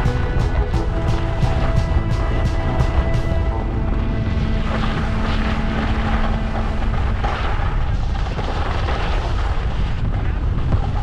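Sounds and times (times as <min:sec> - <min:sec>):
wind on microphone: 0:00.0 - 0:11.0
skis sliding over snow: 0:00.1 - 0:11.0.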